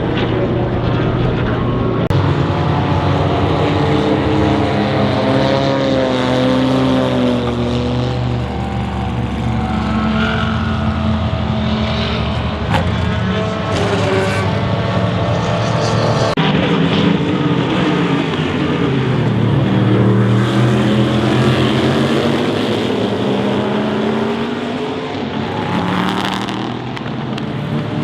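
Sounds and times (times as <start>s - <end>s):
race cars passing by: 0.0s - 28.0s.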